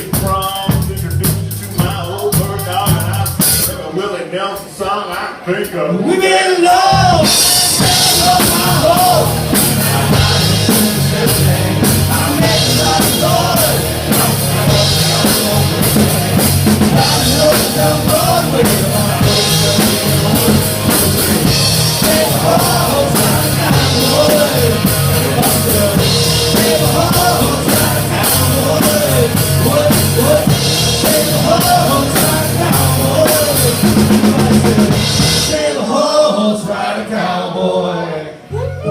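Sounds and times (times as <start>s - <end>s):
up-tempo band music: 0.0s - 37.4s.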